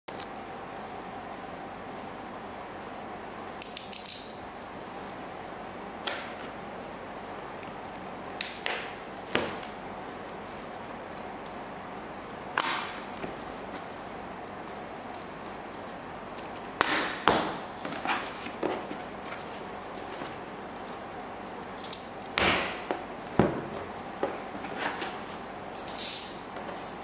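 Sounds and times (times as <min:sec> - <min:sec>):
steady background hiss: 0:00.1 - 0:27.0.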